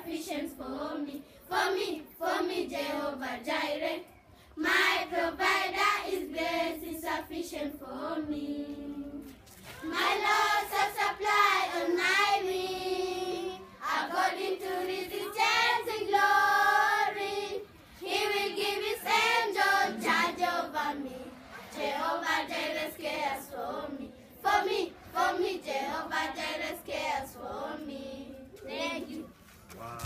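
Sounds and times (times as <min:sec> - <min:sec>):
children singing a gospel song: 0:00.0 - 0:29.3.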